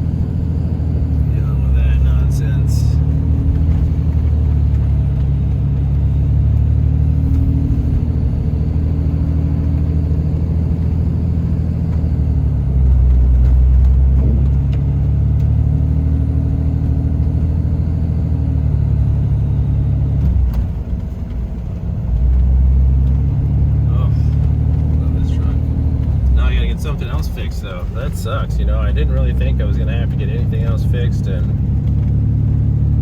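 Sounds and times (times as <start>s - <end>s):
diesel engine under load: 0.0s - 33.0s
road rumble: 0.0s - 33.0s.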